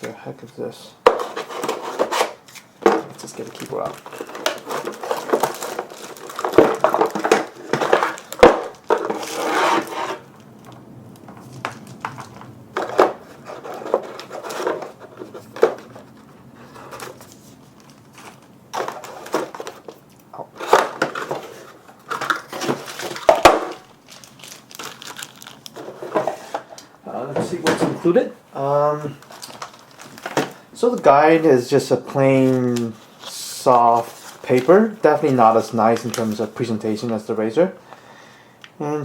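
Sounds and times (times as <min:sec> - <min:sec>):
packaging rustling and crinkling: 0:00.0 - 0:37.8.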